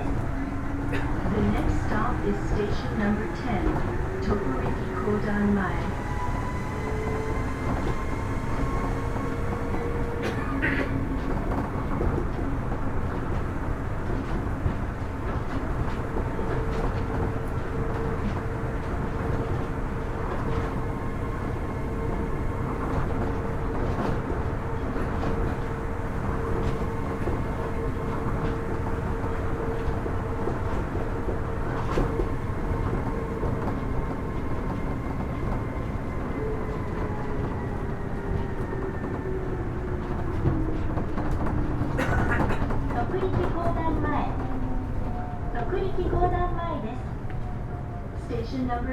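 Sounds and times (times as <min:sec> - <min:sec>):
monorail running gear rumble: 0:00.0 - 0:48.9.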